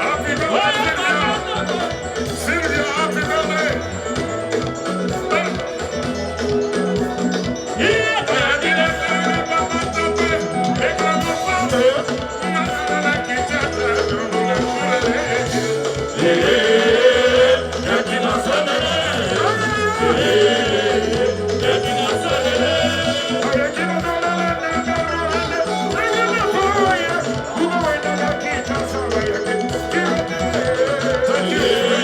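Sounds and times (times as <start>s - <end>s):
high wavering melody: 0.0s - 32.0s
repeating bass line: 0.0s - 32.0s
rumba band music: 0.0s - 32.0s.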